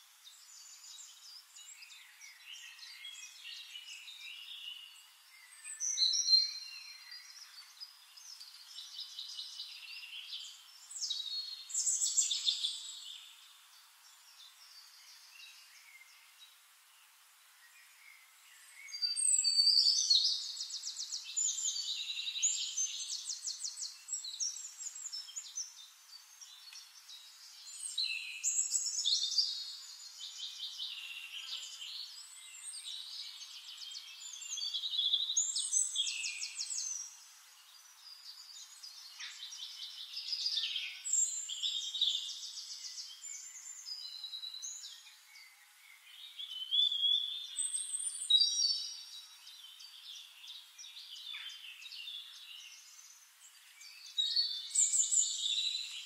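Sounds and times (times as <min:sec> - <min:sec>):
songbird trills and whistles: 0:00.3 - 0:13.3, 0:17.8 - 0:56.0.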